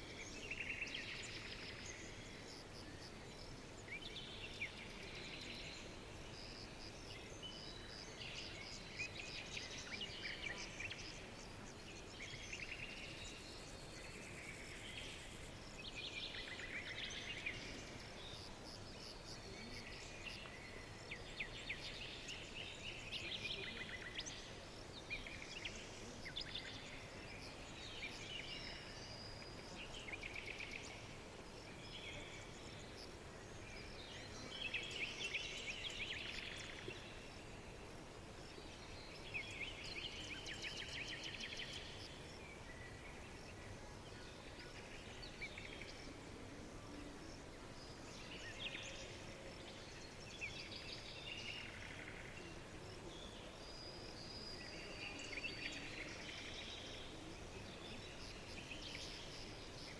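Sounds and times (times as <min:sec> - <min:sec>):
faint steady background hiss: 0:00.0 - 0:59.9
songbirds singing: 0:00.0 - 0:59.9.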